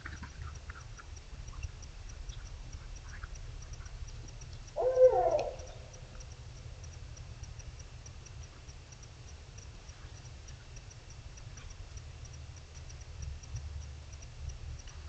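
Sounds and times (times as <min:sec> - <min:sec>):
insect ticking clicks: 0:00.0 - 0:15.0.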